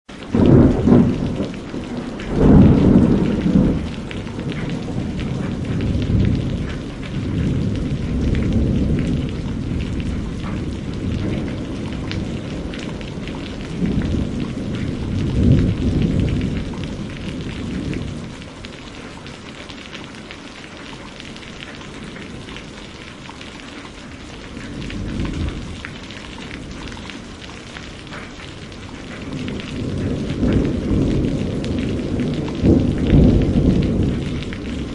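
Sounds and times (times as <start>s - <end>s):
heavy rain: 0.0s - 34.9s
rolling thunder: 0.2s - 18.7s, 24.3s - 34.9s.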